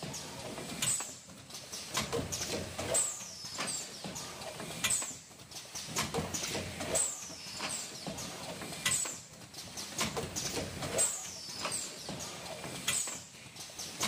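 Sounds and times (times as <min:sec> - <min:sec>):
packaging machine clicking and knocking: 0:00.0 - 0:14.0.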